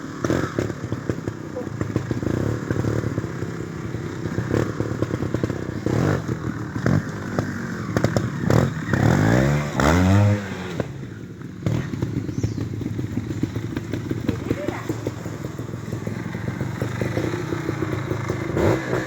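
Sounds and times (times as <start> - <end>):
motorcycle engine running: 0.0 - 19.0
motorcycle throttle blips: 0.0 - 19.0.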